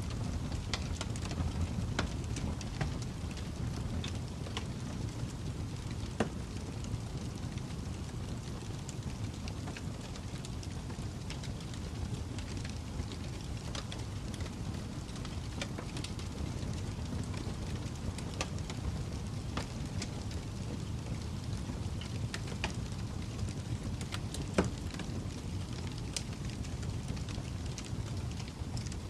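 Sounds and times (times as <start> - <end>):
fire crackling: 0.0 - 29.0
fire popping: 0.0 - 29.0.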